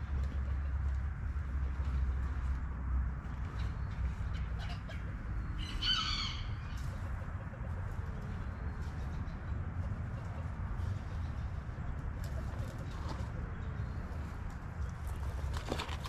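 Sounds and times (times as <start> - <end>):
steady low rumble: 0.0 - 15.6.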